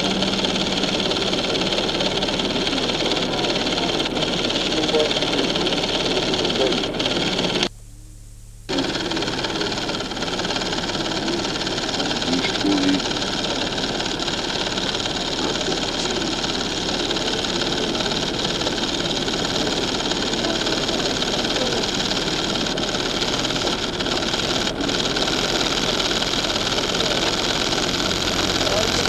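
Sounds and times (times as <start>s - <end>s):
mechanical running noise: 0.0s - 7.7s, 8.7s - 29.0s.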